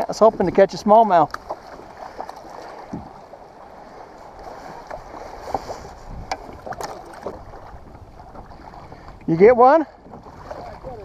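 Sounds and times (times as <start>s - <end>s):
water lapping against a kayak: 0.0s - 11.0s.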